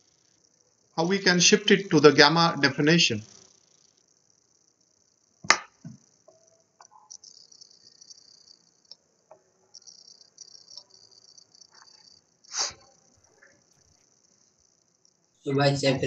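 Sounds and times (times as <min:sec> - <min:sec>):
faint high-pitched chirring: 0:00.0 - 0:16.0.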